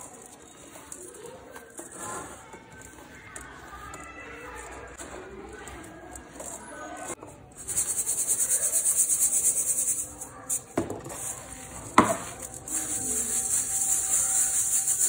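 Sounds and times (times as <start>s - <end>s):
sieve rattling with cement grit: 0.0s - 4.0s, 6.3s - 15.0s.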